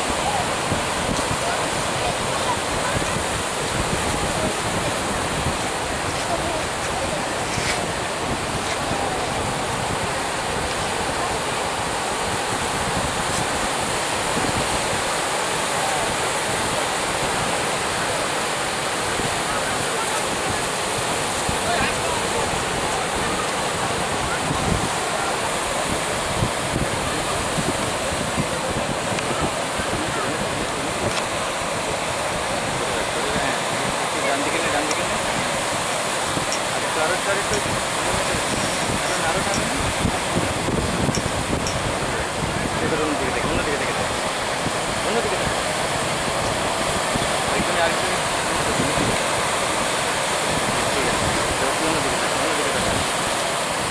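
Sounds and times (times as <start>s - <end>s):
surf breaking over rocks: 0.0s - 53.9s
wind buffeting microphone: 0.0s - 53.9s.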